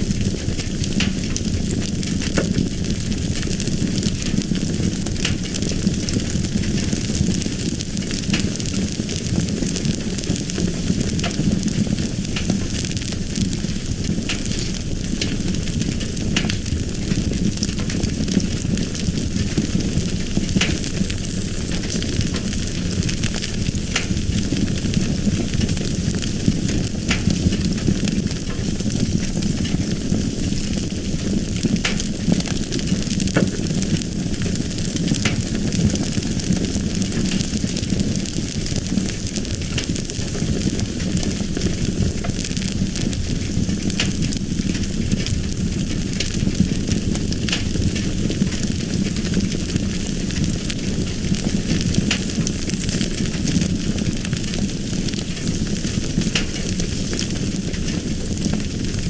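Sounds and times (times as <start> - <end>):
fire crackling and hissing: 0.0 - 59.0.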